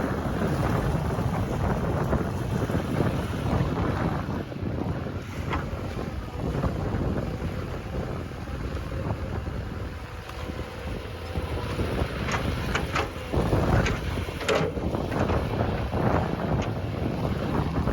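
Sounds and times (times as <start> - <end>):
low steady rumble: 0.0 - 17.9
wind buffeting microphone: 0.0 - 17.9.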